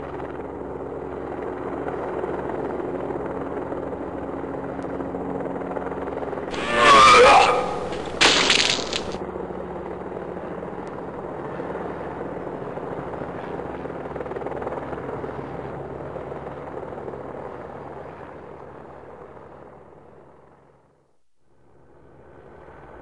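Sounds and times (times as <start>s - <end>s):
helicopter engine and rotor drone: 0.0s - 6.7s, 9.2s - 21.0s, 21.6s - 23.0s.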